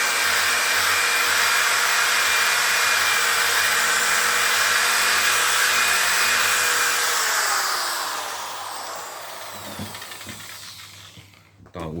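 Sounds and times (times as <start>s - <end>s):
electric sander running: 0.0s - 11.5s.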